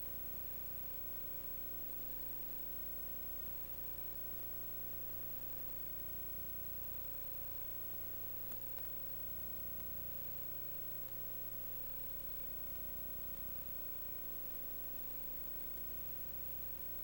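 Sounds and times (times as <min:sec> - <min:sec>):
electrical hum and hiss: 0:00.0 - 0:17.0
faint constant tone: 0:00.0 - 0:17.0.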